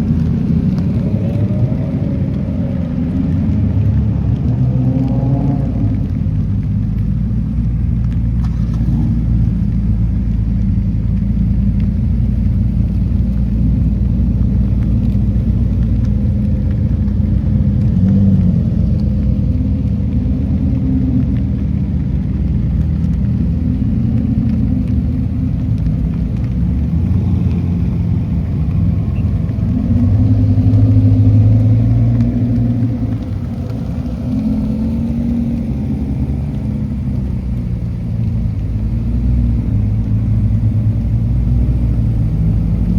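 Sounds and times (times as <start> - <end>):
sports car engines rumbling: 0.0 - 42.9.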